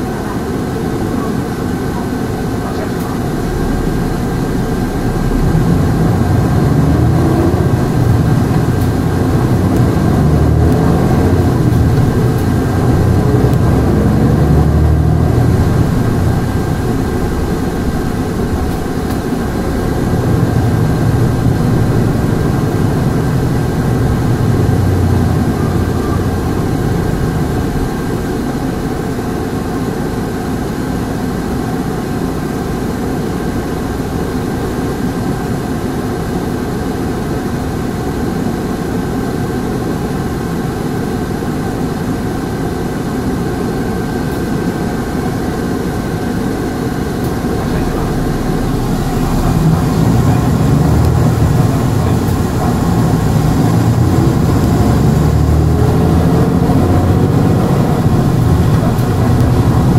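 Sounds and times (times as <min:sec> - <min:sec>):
bus engine rumble: 0:00.0 - 0:59.9
high whine: 0:00.0 - 0:59.9.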